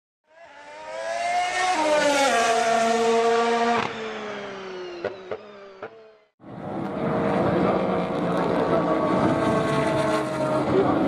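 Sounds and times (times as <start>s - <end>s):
race car engine revving: 0.3s - 11.0s.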